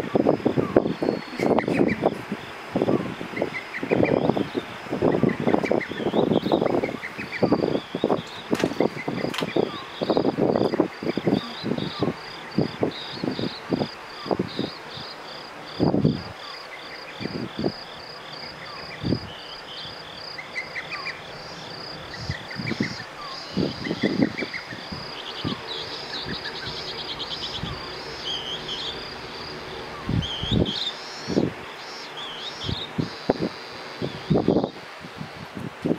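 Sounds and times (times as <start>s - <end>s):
electric fan hiss: 0.0s - 35.9s
night insects chirping: 0.0s - 35.9s.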